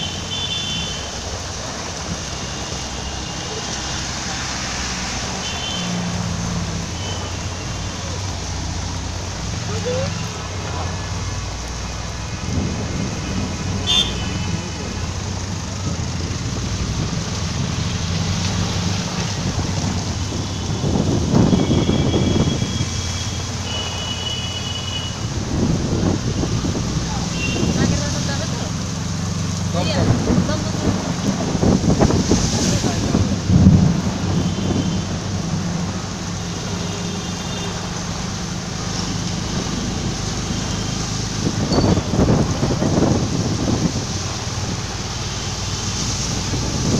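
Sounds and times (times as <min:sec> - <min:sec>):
bus engine humming: 0:00.0 - 0:46.9
rain hissing: 0:00.0 - 0:46.9
traffic on wet road: 0:00.0 - 0:46.9.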